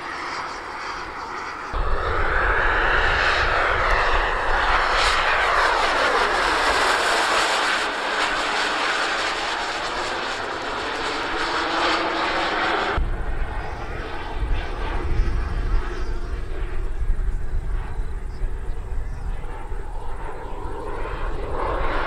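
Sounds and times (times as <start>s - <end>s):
model jet turbines whining: 0.0s - 22.0s.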